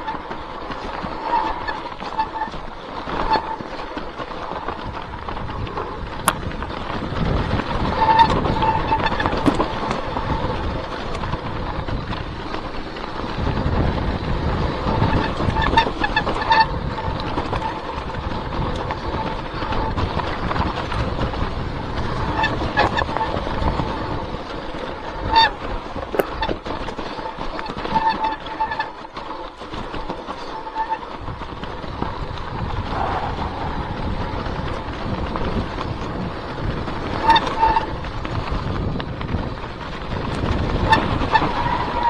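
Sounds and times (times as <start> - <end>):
bike tyres rumbling on trail: 0.0 - 42.0
brakes squealing: 0.0 - 42.0
rattles and clicks: 0.0 - 42.0.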